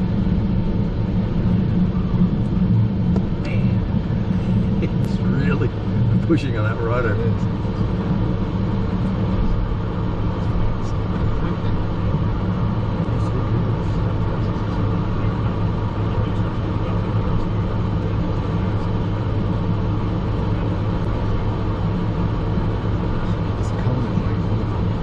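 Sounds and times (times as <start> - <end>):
jet engines humming: 0.0 - 25.0.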